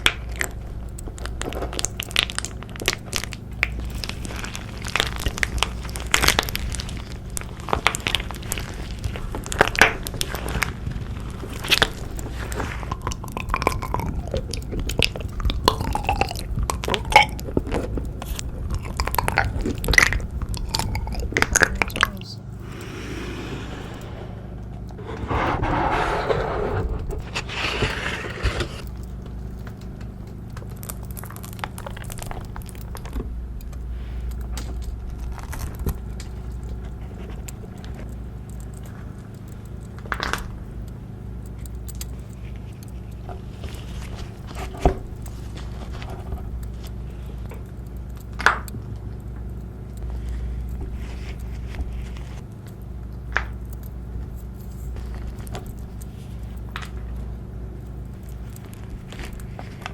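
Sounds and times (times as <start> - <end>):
hamster crunching food: 0.0 - 23.8, 26.8 - 59.9
steady low hum: 0.0 - 59.9.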